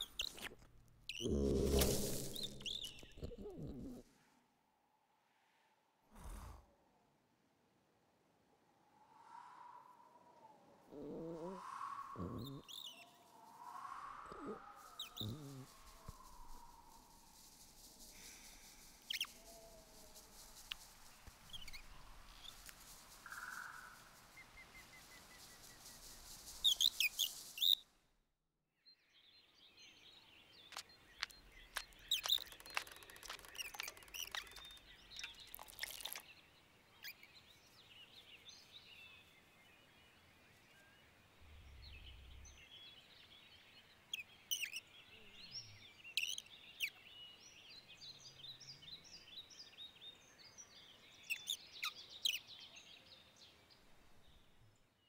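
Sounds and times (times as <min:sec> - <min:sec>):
small birds chirping: 0:00.0 - 0:04.1, 0:10.8 - 0:27.8, 0:29.1 - 0:54.9.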